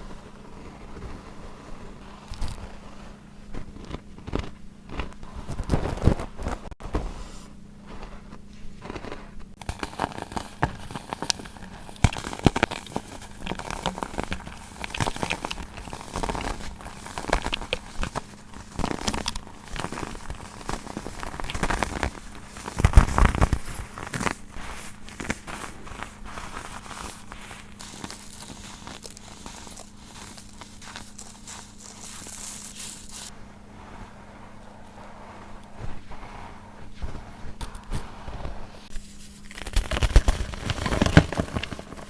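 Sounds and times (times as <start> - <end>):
baking soda crunching: 0.0 - 42.0.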